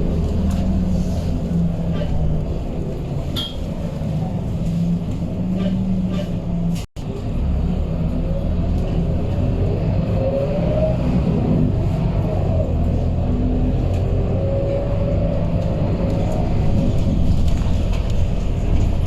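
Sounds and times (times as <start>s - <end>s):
bus diesel engine droning: 0.0s - 19.0s.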